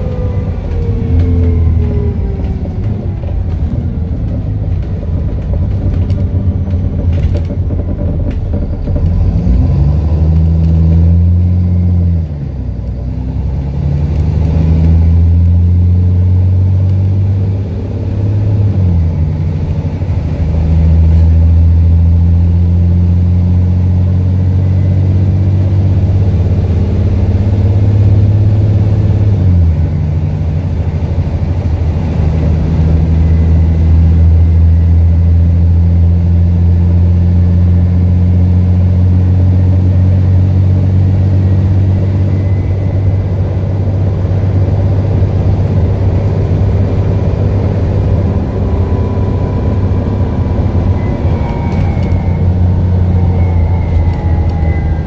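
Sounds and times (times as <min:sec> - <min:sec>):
bus diesel engine droning: 0:00.0 - 0:55.0.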